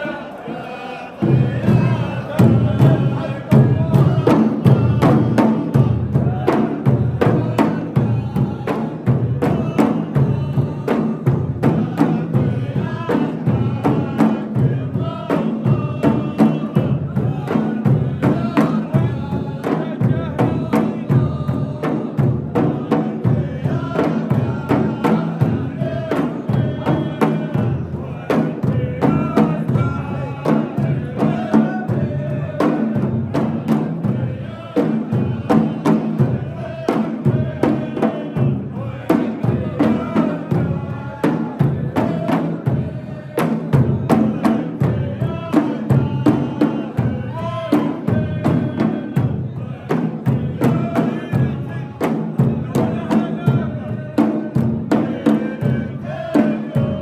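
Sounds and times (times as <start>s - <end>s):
music with percussion beat: 1.2s - 57.0s.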